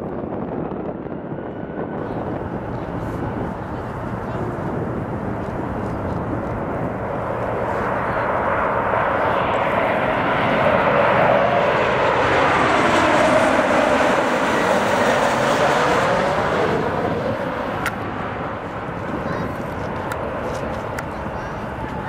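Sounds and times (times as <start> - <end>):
jet airliner roar: 0.0 - 22.0.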